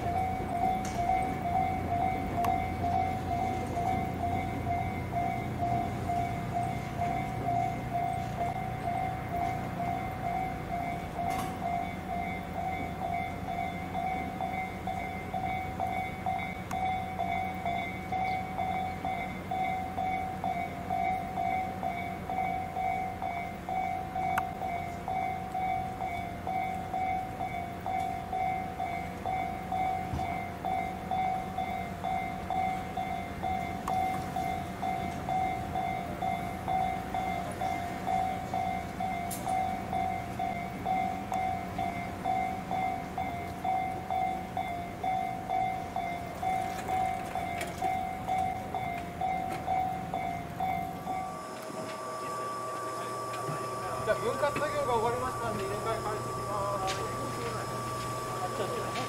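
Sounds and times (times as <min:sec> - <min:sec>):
level crossing alarm dinging: 0:00.0 - 0:59.0
low steady rumble: 0:00.0 - 0:59.0.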